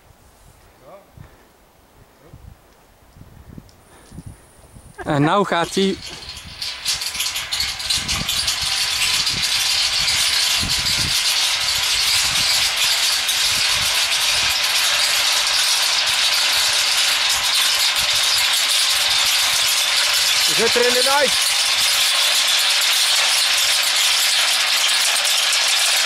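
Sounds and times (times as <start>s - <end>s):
marble rattling along metal rails: 5.1s - 26.0s.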